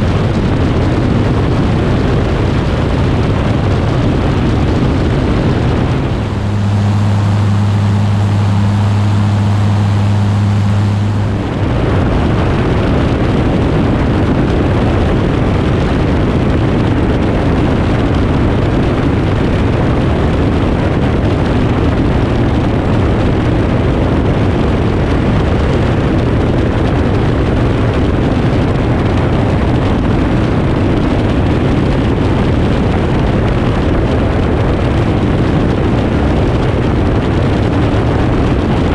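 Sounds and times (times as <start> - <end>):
aircraft engine and propeller: 0.0 - 38.9
airflow rushing on microphone: 0.0 - 38.9
steady low drone: 0.0 - 38.9.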